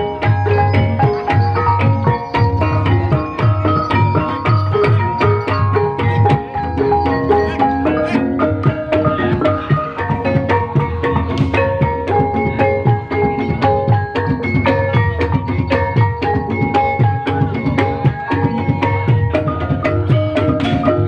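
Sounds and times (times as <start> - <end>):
hand drum strokes: 0.0 - 21.0
metallophones ringing melody: 0.0 - 21.0.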